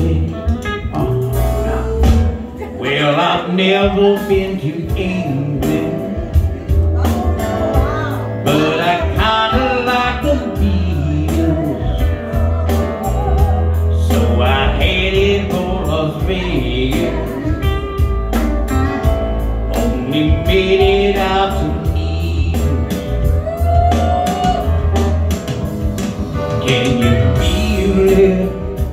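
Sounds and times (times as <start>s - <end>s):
man singing through pa: 0.0s - 18.3s, 19.6s - 24.8s, 26.5s - 28.9s
amplified backing music with beat: 0.0s - 28.9s.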